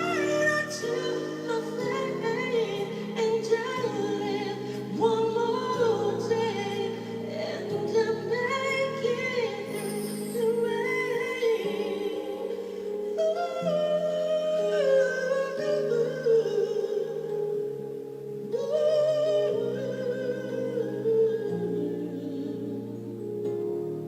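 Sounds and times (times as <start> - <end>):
sustained backing chords: 0.0 - 24.0.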